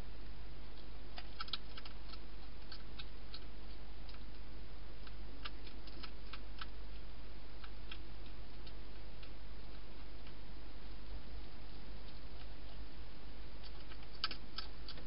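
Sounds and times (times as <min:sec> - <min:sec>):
steady low hum: 0:00.0 - 0:15.0
hedgehog crunching food: 0:00.8 - 0:12.9, 0:13.6 - 0:15.0.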